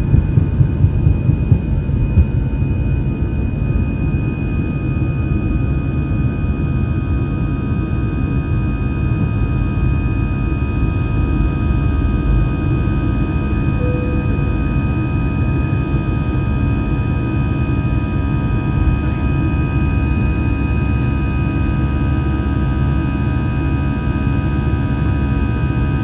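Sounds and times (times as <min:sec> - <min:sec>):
aircraft cabin engine drone: 0:00.0 - 0:26.0.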